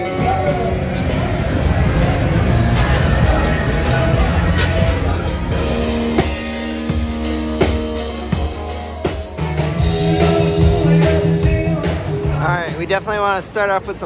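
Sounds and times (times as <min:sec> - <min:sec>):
drum kit beat: 0:00.0 - 0:13.4
electric guitar notes: 0:00.0 - 0:13.5.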